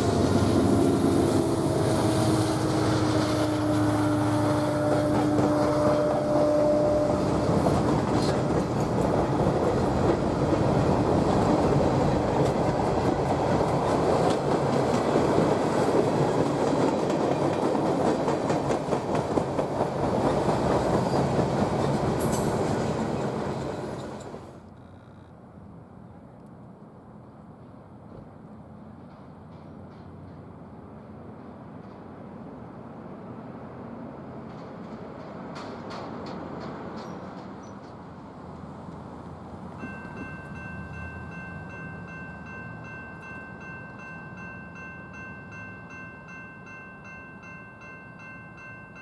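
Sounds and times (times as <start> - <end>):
train cars rolling on rails: 0.0 - 25.3, 27.1 - 49.0.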